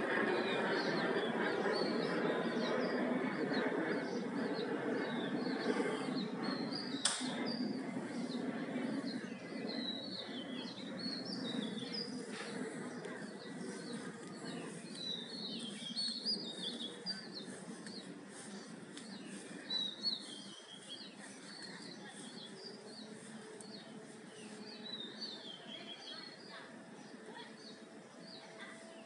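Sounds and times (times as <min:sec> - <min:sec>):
outdoor ambient noise: 0:00.0 - 0:29.0
small birds chirping: 0:00.0 - 0:29.0.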